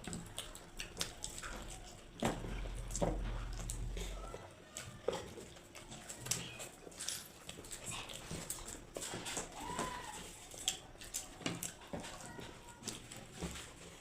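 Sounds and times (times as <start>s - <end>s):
chewing and mouth sounds: 0.0s - 14.0s.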